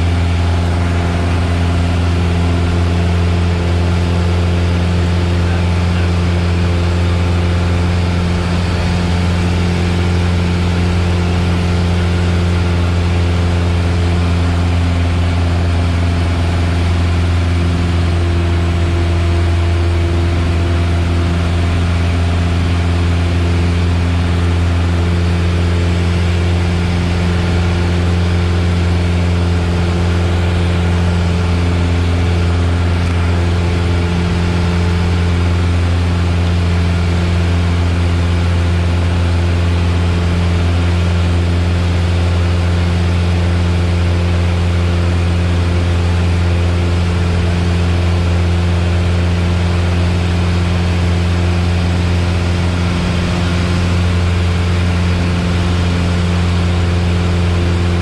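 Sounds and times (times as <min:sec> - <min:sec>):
airplane engine droning in cabin: 0:00.0 - 0:58.0.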